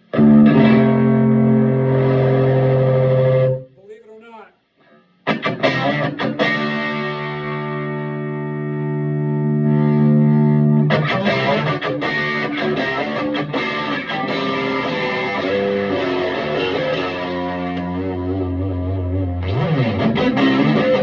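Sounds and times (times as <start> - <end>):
overdriven electric guitar chords: 0.0 - 3.7, 4.8 - 21.0.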